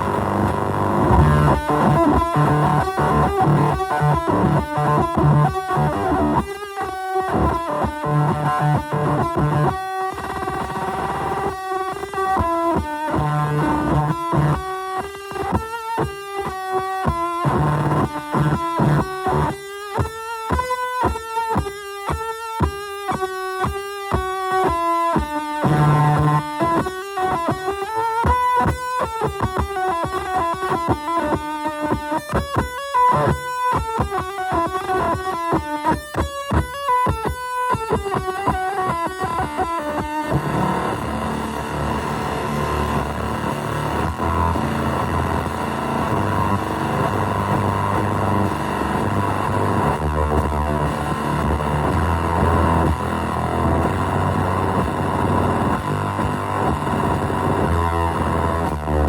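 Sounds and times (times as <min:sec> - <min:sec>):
distorted electric guitar riff: 0:00.0 - 0:59.0.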